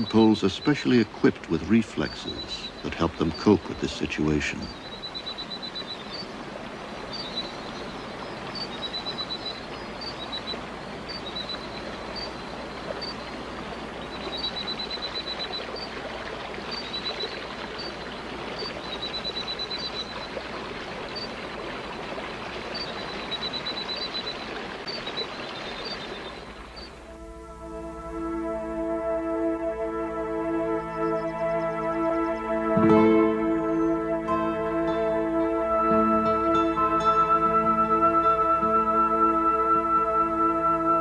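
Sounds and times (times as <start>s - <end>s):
stream trickling: 0.0s - 41.0s.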